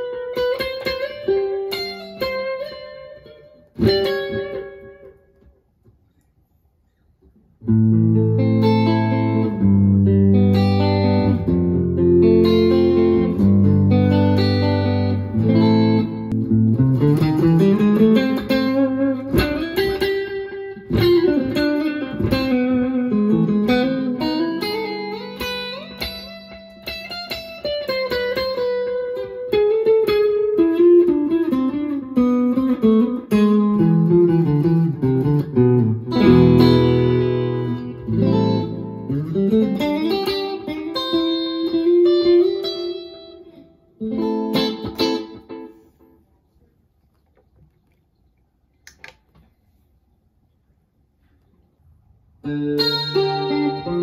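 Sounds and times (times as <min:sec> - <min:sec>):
electric guitar chords: 0:00.0 - 0:05.5, 0:07.6 - 0:46.1, 0:52.4 - 0:54.0
electric guitar lead lines: 0:00.0 - 0:05.6, 0:07.6 - 0:46.2, 0:52.4 - 0:54.0.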